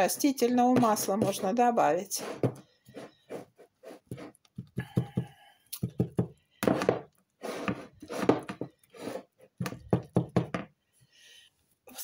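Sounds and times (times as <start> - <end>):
spoon stirring dough in plastic bowl: 0.0 - 10.6.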